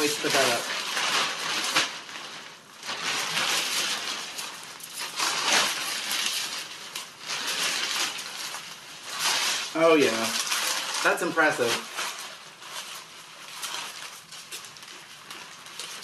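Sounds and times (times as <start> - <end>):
shower curtain rustling: 0.0 - 16.0.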